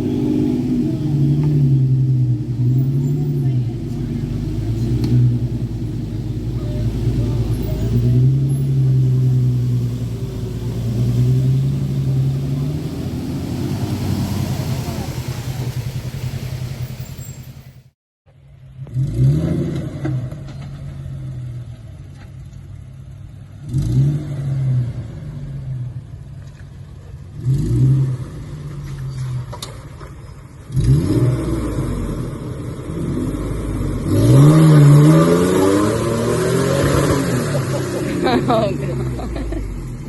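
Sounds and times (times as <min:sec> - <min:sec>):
vehicle engine revving: 0:00.0 - 0:18.0, 0:18.7 - 0:22.3, 0:23.6 - 0:26.6, 0:27.2 - 0:40.0.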